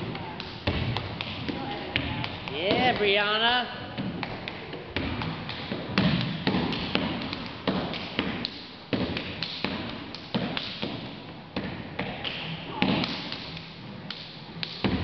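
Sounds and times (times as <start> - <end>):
hands slapping legs: 0.2 - 3.1, 4.0 - 15.0.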